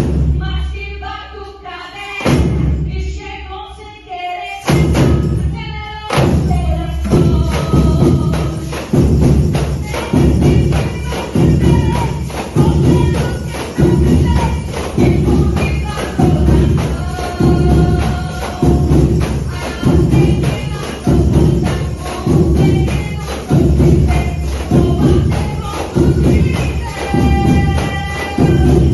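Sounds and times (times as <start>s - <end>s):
deep drum beats: 0.0s - 0.6s, 2.2s - 3.0s, 4.7s - 28.9s
tambourines jingling: 4.5s - 28.9s.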